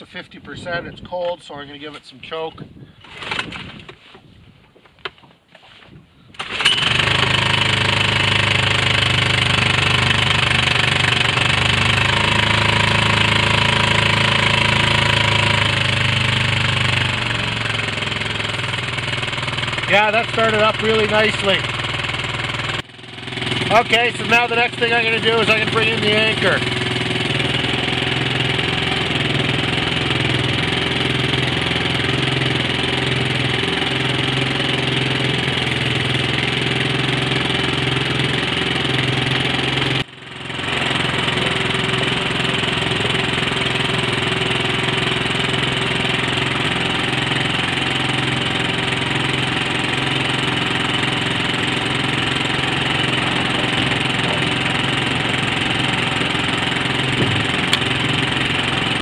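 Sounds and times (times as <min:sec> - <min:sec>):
outboard motor idling: 0:06.3 - 0:59.0.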